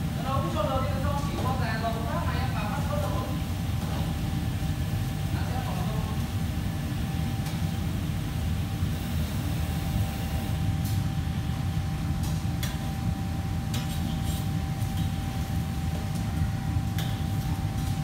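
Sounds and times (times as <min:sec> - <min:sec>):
faint steady whine: 0:00.0 - 0:18.0
low machine hum: 0:00.0 - 0:18.0.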